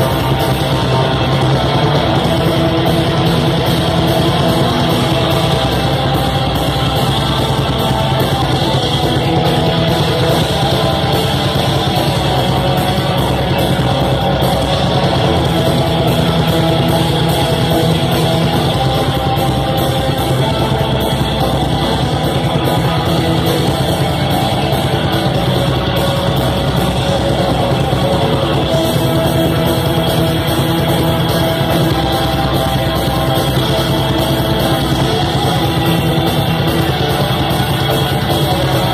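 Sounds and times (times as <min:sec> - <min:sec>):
distorted electric guitars: 0:00.0 - 0:38.9
drums: 0:00.0 - 0:38.9.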